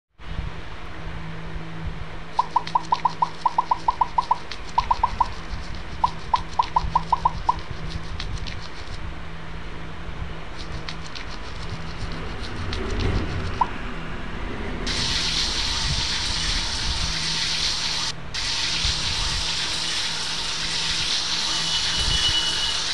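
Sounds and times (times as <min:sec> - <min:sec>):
steady hiss: 0:00.3 - 0:22.9.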